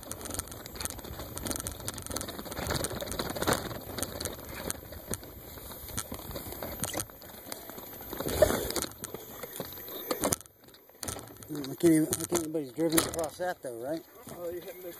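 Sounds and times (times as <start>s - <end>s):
bicycle tyres rolling through grass: 0.0s - 14.9s
bike rattling over bumps: 0.0s - 14.9s.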